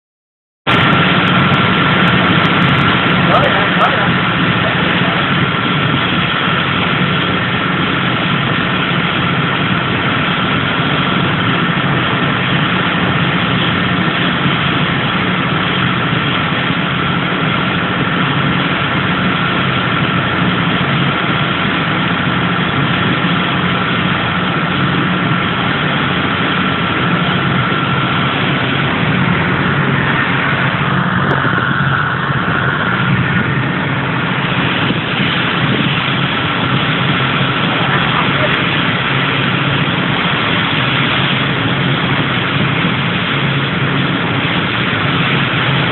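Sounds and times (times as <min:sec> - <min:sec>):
boat engine drone: 0:00.6 - 0:45.9
thin steady whine: 0:00.7 - 0:45.9.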